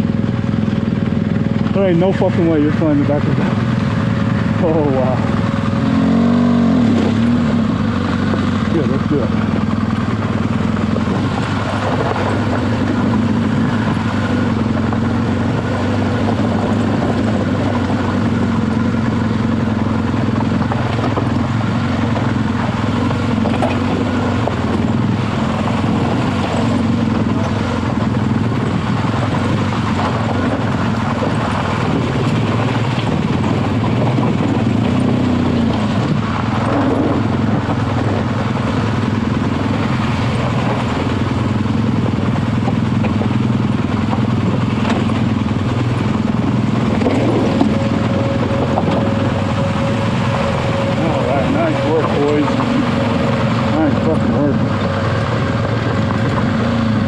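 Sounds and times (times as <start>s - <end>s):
motorcycle engine running: 0.0s - 57.0s
clatter on rocky trail: 0.8s - 57.0s.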